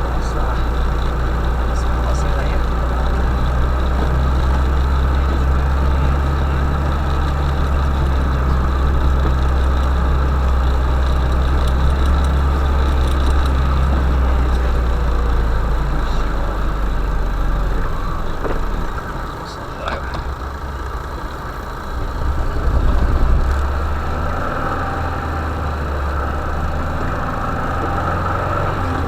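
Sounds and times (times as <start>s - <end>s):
van engine droning: 0.0s - 29.0s.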